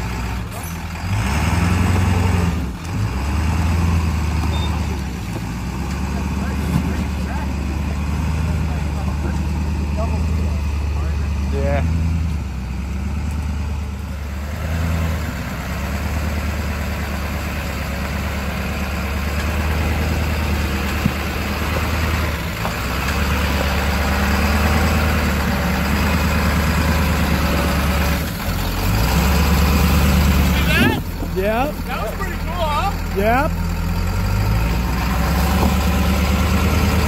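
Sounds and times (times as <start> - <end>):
engine droning at low revs: 0.0 - 37.0.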